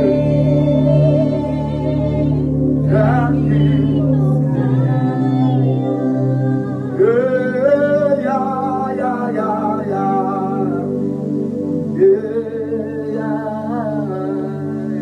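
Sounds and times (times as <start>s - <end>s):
slow worship singing: 0.0s - 15.0s
sustained held chords: 0.0s - 15.0s.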